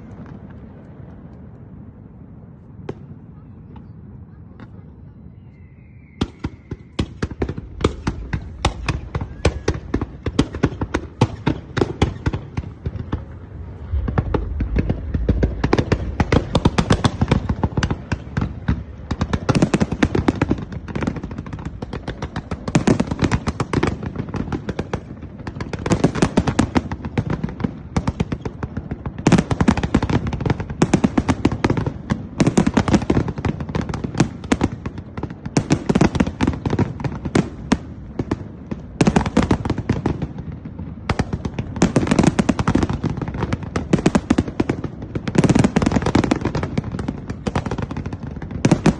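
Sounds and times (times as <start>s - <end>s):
fireworks cracks and bangs: 6.2s - 48.9s.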